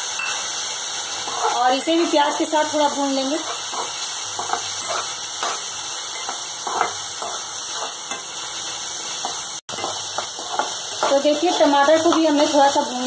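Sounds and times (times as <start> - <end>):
vegetables sizzling in oil: 0.0 - 13.0
spatula scraping a pan: 1.0 - 12.8.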